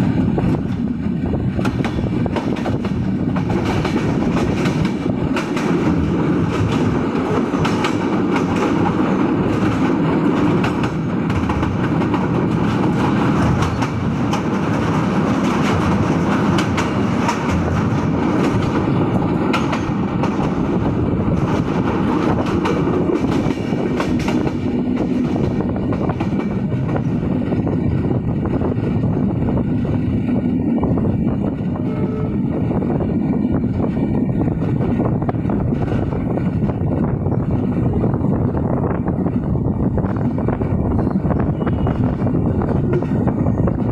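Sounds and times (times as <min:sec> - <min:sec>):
passenger train rumbling: 0:00.0 - 0:43.9
wheels clickety-clack over rail joints: 0:00.0 - 0:43.9.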